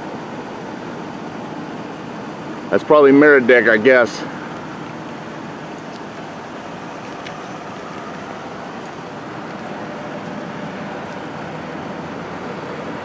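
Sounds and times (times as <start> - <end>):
vehicle and road noise: 0.0 - 13.0.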